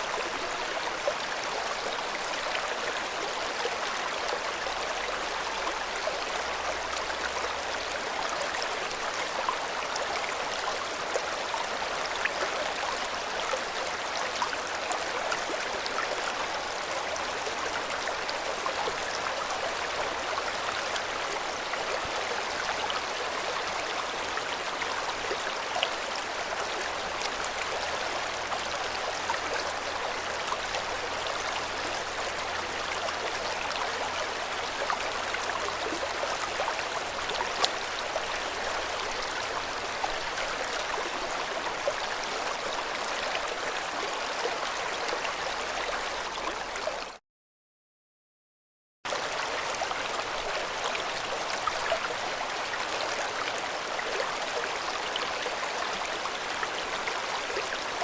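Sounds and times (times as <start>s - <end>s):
river water flowing over stones: 0.0s - 47.2s, 49.1s - 58.0s.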